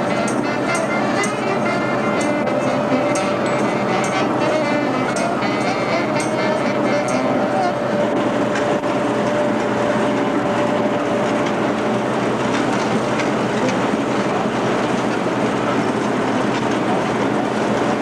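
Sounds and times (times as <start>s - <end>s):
vehicle rumbling and rattling: 0.0s - 18.0s.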